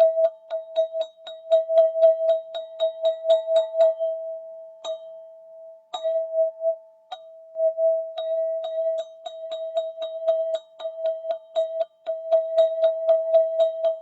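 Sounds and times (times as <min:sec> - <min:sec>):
sound-healing tube being struck: 0:00.0 - 0:14.0
steady ringing tone: 0:00.0 - 0:14.0.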